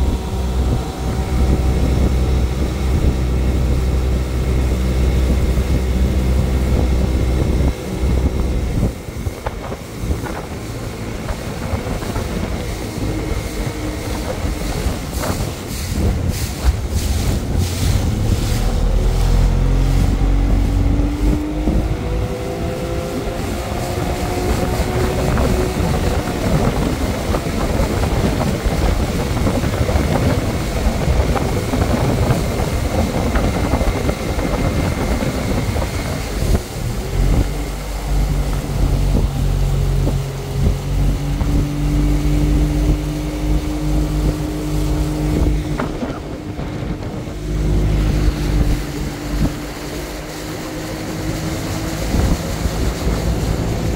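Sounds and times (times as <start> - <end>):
outboard motor running: 0.0 - 53.9
water rushing from wake: 0.0 - 53.9.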